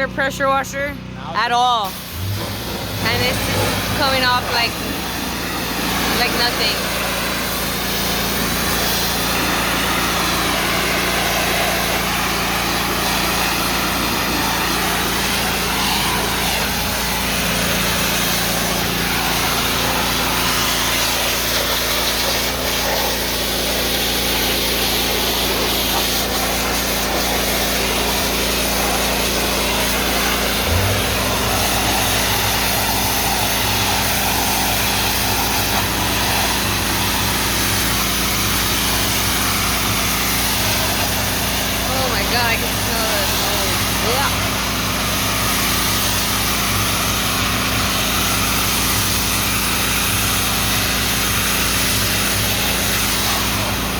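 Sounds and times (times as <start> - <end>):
gas engine running: 0.0 - 53.9
high-pressure spray hissing: 1.8 - 53.9.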